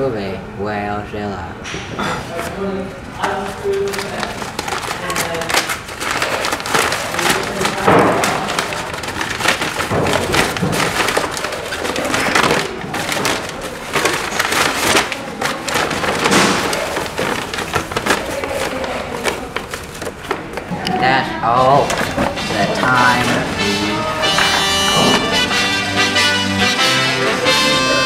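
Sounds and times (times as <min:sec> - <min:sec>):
paper crinkling and rustling: 0:02.4 - 0:21.0, 0:21.6 - 0:25.8.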